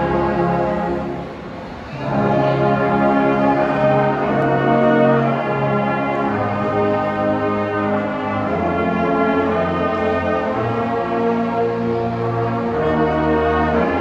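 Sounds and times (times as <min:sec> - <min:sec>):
brass band playing slow chords: 0:00.0 - 0:14.0.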